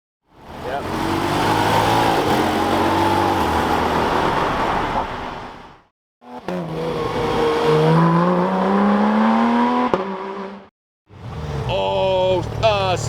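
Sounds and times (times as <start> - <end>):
car engine accelerating: 0.3 - 5.6, 6.3 - 13.0
sports car driving off: 0.3 - 5.6, 6.3 - 13.0.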